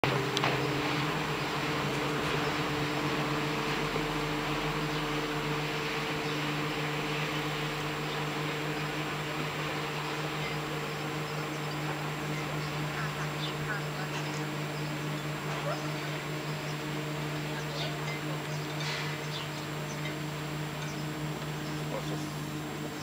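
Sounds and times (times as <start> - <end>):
speedboat engine droning: 0.0 - 23.0.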